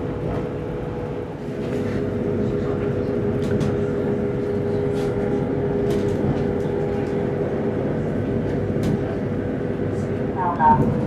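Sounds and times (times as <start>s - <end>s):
train carriage running rumble: 0.0s - 11.0s.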